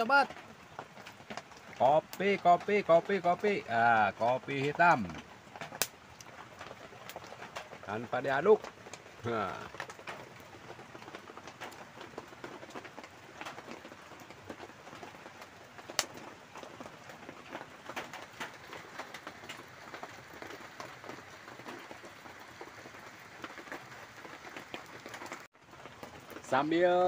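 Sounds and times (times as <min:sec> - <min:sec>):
light rain pattering on leaves: 0:00.0 - 0:27.0.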